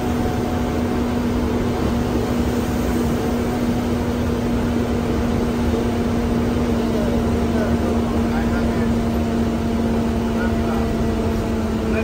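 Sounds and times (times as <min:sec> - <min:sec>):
bus engine and road rumble: 0:00.0 - 0:12.0
constant low hum: 0:00.0 - 0:12.0.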